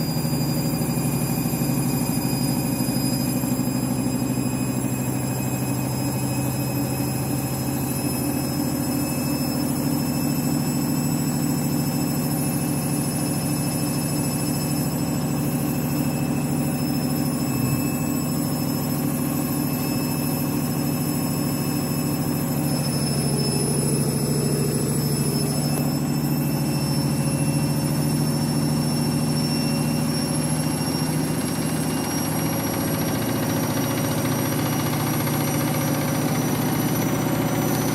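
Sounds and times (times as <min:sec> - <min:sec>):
washing machine spinning: 0:00.0 - 0:37.9.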